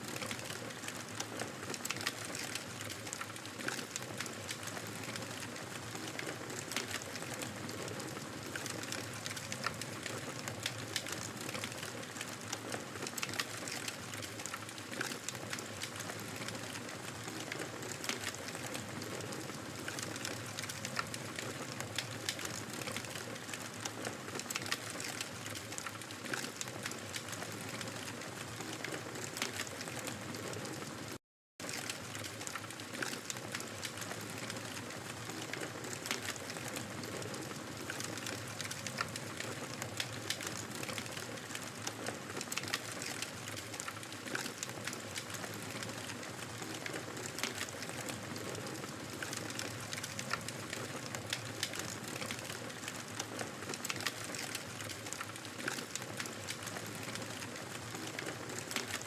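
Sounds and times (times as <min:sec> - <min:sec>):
wood fire crackling and popping: 0:00.1 - 0:59.0.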